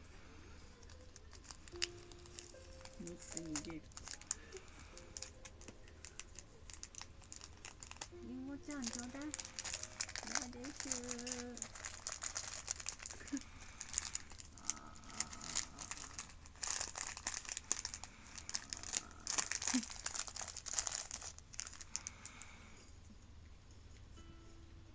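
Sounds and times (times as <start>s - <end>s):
plastic packet crinkling: 0.8s - 22.6s.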